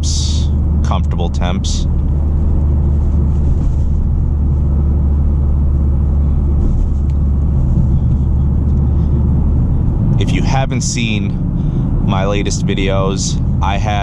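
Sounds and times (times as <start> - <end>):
car engine low drone in cabin: 0.0 - 14.0.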